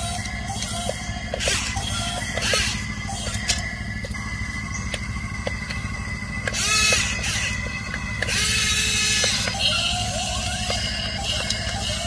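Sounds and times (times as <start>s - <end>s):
plastic gears clicking: 0.0s - 4.3s, 6.4s - 12.0s
toy gear motors whirring: 0.0s - 12.0s.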